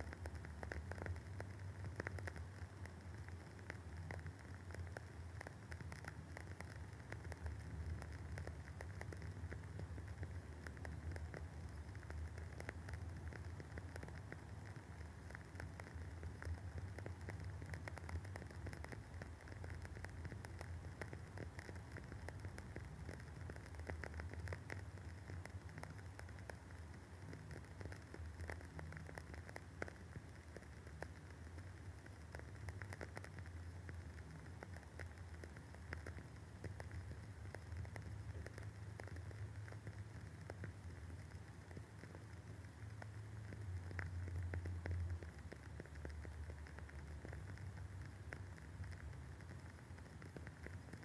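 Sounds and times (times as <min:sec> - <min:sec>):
candle wick crackling: 0:00.0 - 0:51.0.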